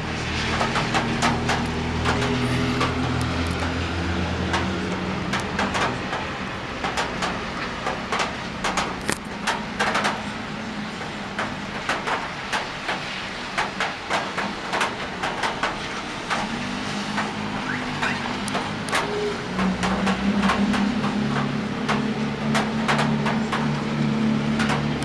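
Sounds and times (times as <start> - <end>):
hiss of downpour: 0.0 - 25.0
traffic on a wet street: 0.0 - 25.0
raindrops tapping on a ledge: 0.1 - 25.0.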